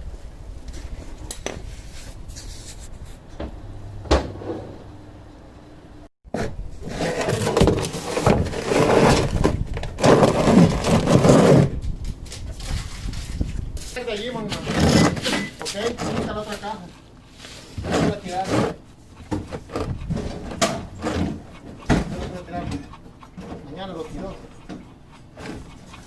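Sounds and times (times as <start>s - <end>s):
rubbing and scraping: 0.8s - 3.2s, 6.3s - 26.0s.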